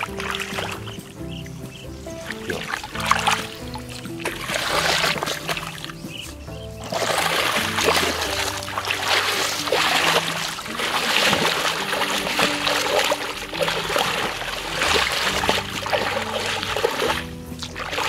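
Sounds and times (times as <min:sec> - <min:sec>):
background music: 0:00.0 - 0:18.0
bare feet squelching in wet mud: 0:00.0 - 0:18.0
water splashing: 0:00.0 - 0:18.0.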